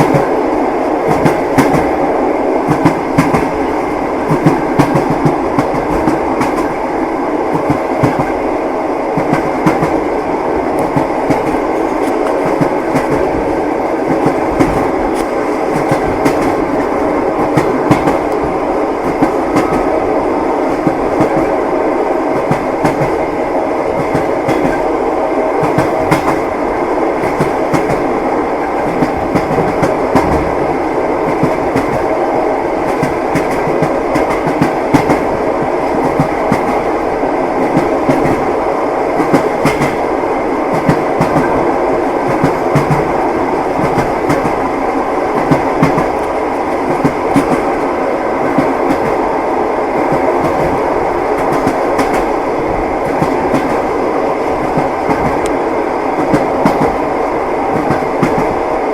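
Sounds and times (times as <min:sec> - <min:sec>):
train wheels clacking: 0:00.0 - 0:00.4, 0:01.0 - 0:02.0, 0:02.6 - 0:06.8, 0:07.5 - 0:08.4, 0:09.1 - 0:10.1, 0:10.7 - 0:20.0, 0:20.7 - 0:21.6, 0:22.3 - 0:23.3, 0:23.9 - 0:30.6, 0:31.2 - 0:37.0, 0:37.6 - 0:40.1, 0:40.7 - 0:49.3, 0:50.0 - 0:55.6, 0:56.2 - 0:57.0, 0:57.6 - 0:58.6
train carriage rumbling: 0:00.0 - 0:58.9.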